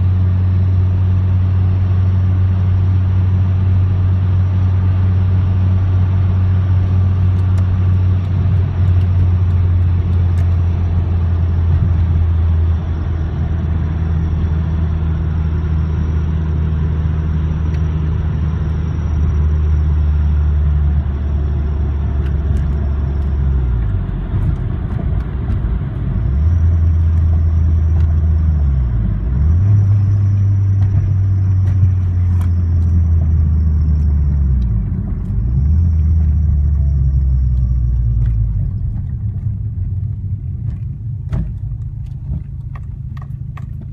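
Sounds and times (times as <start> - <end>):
car engine drone: 0.0 - 43.9
road noise: 0.0 - 43.9.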